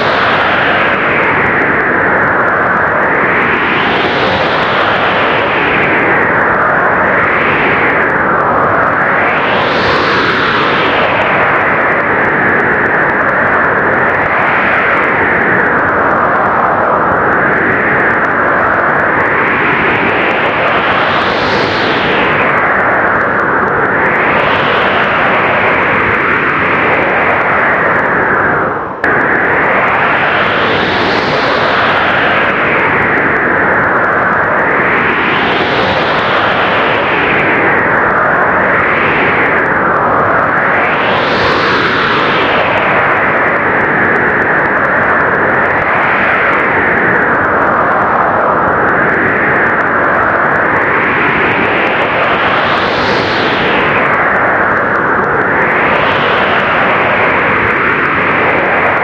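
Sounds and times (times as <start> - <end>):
blizzard wind gusting: 0.0 - 59.0.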